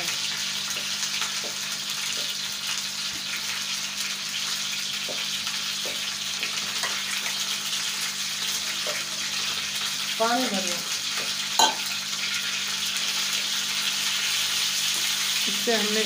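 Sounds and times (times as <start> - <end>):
chicken sizzling in a pan: 0.0 - 16.0.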